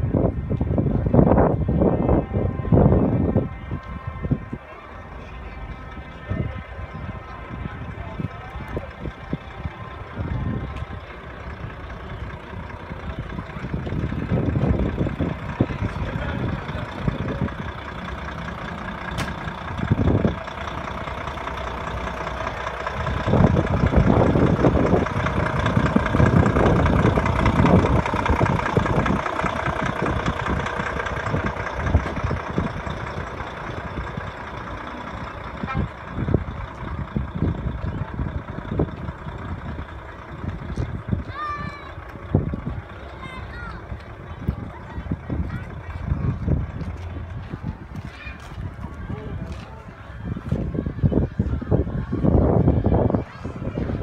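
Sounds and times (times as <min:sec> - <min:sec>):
truck engines idling: 0:00.0 - 0:54.0.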